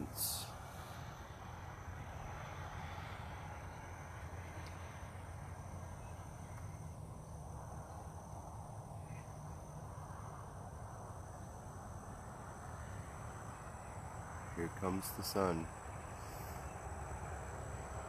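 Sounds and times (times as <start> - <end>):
insects trilling: 0.0 - 18.0
low continuous rumble: 0.0 - 18.0.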